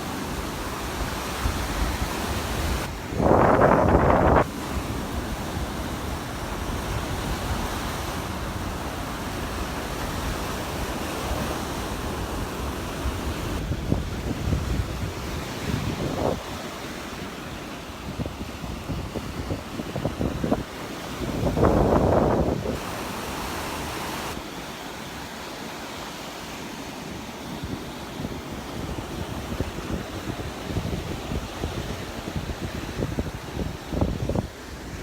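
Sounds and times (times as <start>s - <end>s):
surf washing on beach: 0.0s - 35.0s
wind buffeting microphone: 0.3s - 24.4s, 27.6s - 35.0s.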